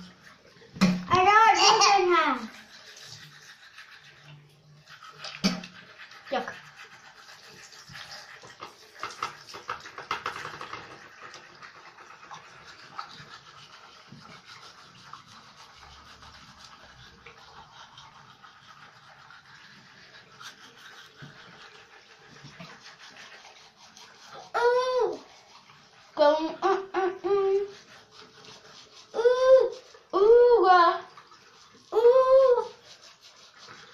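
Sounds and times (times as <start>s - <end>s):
toothbrush scrubbing teeth: 0.0s - 33.9s.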